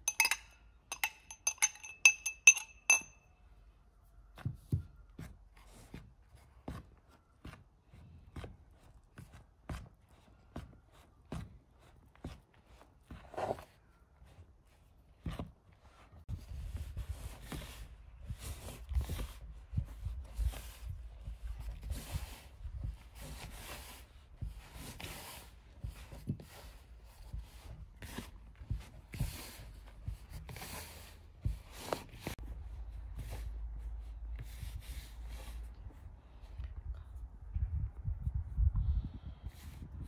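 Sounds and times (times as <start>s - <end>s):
hands rubbing dough: 3.9s - 37.4s.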